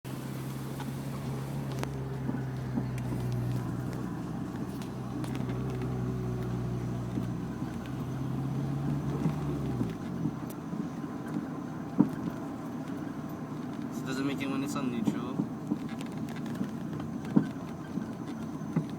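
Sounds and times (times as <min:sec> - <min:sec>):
car engine drone: 0:00.1 - 0:18.9.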